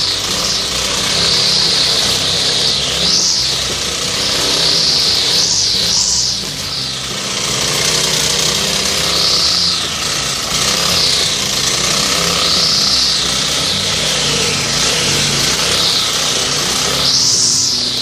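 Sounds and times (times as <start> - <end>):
brush cutter engine running: 0.0 - 18.0
trimmer line cutting grass: 0.0 - 18.0.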